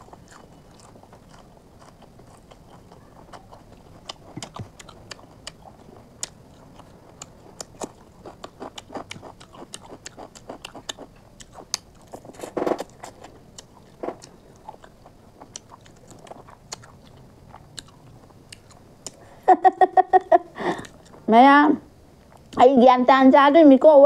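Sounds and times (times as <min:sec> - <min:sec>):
person chewing food: 0:00.0 - 0:19.3, 0:20.0 - 0:21.3, 0:22.2 - 0:22.6.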